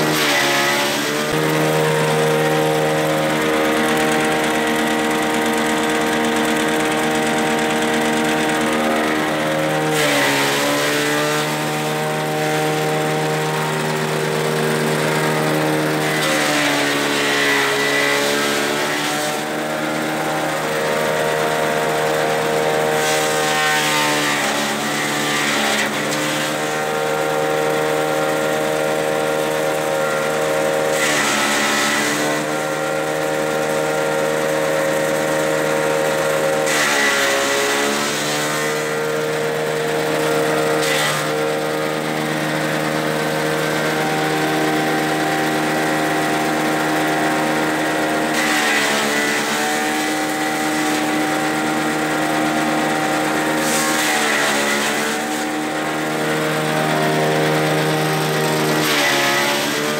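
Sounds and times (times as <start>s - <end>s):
small petrol engine running: 0.0s - 59.9s.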